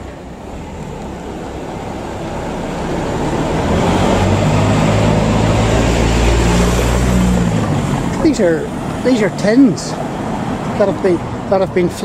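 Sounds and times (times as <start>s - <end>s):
car passing by: 0.0s - 12.0s.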